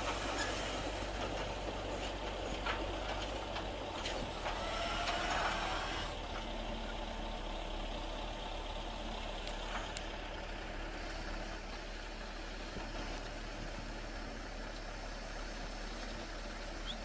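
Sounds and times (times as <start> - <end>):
machine engine running steadily: 0.0 - 17.0.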